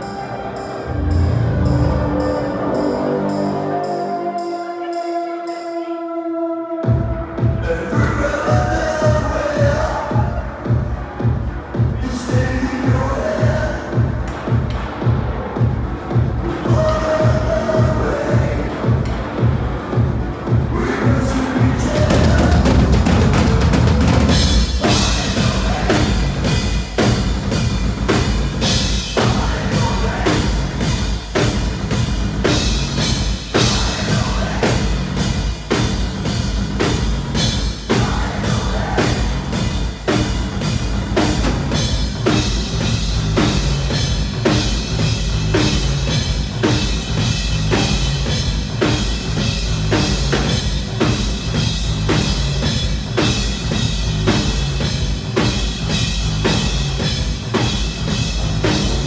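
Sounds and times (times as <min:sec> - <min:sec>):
heavy bass: 0:00.0 - 0:03.9, 0:06.8 - 0:59.0
live rock band: 0:06.8 - 0:59.0
fast drum kit beat: 0:06.9 - 0:59.0.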